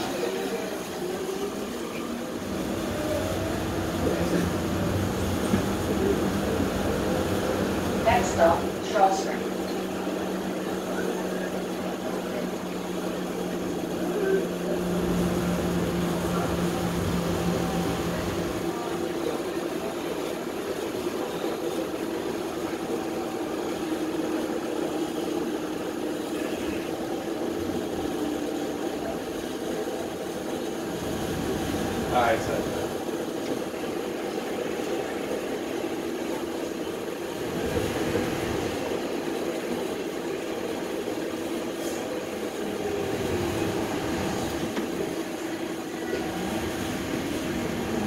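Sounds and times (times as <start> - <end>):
transit vehicle running hum: 0.0 - 48.0.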